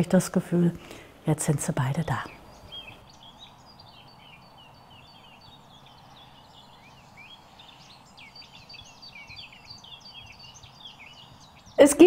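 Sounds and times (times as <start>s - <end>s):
songbirds singing and chirping: 0.0s - 12.0s
steady background hiss: 0.0s - 12.0s.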